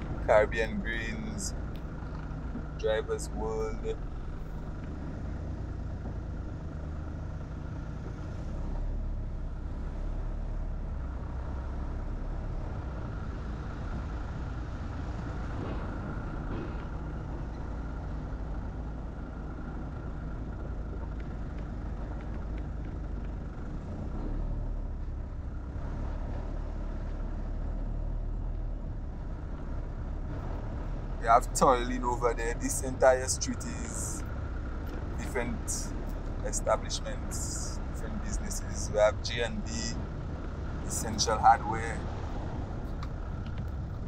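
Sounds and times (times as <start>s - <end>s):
vehicle driving on road: 0.0s - 44.0s.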